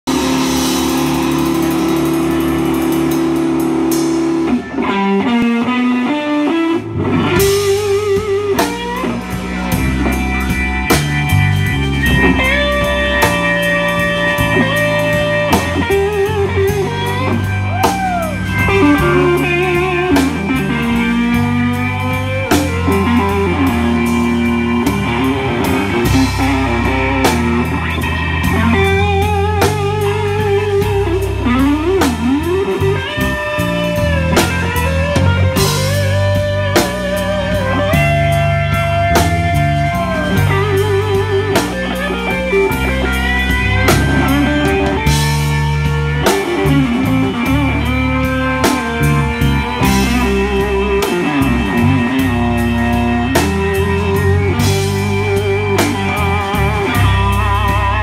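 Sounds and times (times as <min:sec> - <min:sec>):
bass guitar: 0:00.0 - 0:58.0
drum kit: 0:00.0 - 0:58.0
electric guitar lead lines: 0:00.0 - 0:58.0.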